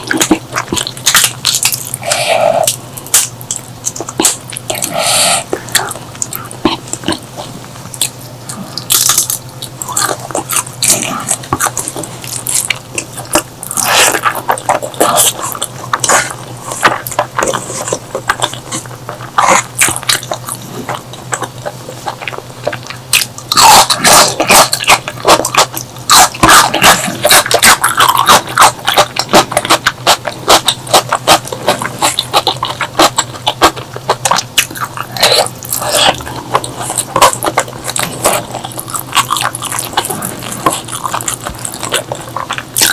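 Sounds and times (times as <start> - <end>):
mouth chewing and smacking: 0.0 - 42.9.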